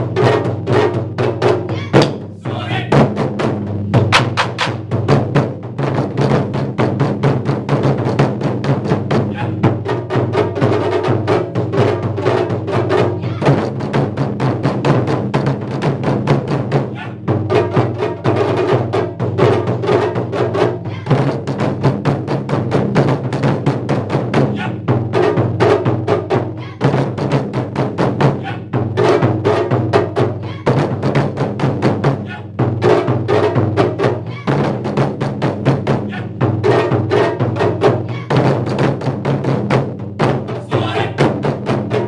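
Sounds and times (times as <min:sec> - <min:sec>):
taiko drums fast rhythm: 0:00.0 - 0:42.0.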